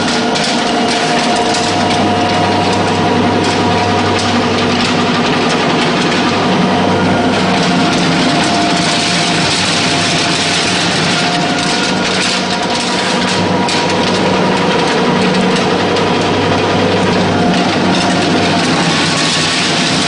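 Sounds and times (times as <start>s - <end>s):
pellet mill machine hum: 0.0s - 20.0s.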